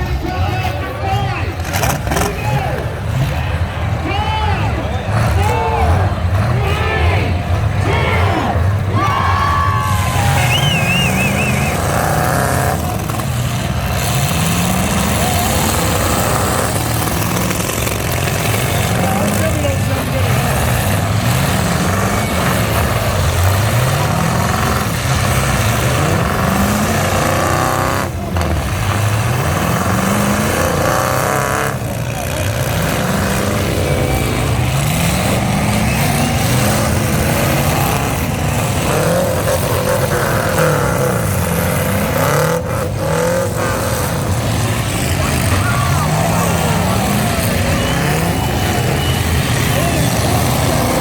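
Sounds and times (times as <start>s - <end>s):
loud engine roar: 0.0s - 51.0s
truck engines revving: 0.0s - 51.0s.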